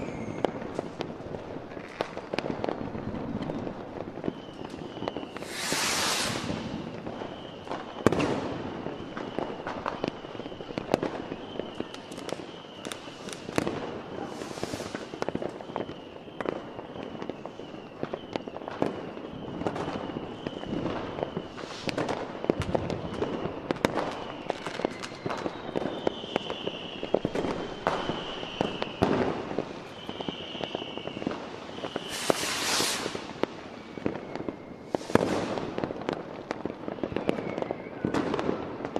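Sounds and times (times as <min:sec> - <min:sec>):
thin high whistle: 0:00.0 - 0:00.6, 0:04.2 - 0:13.5, 0:14.2 - 0:29.2, 0:29.8 - 0:35.6, 0:37.0 - 0:38.2
firework hiss and crackle: 0:00.0 - 0:38.9
fireworks bangs: 0:00.0 - 0:38.9
fireworks crackling: 0:00.0 - 0:38.9.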